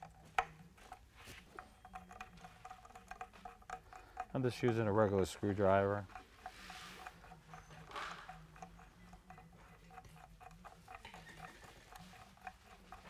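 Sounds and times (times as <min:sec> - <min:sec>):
screwdriver clicks and scratches: 0:00.0 - 0:13.0.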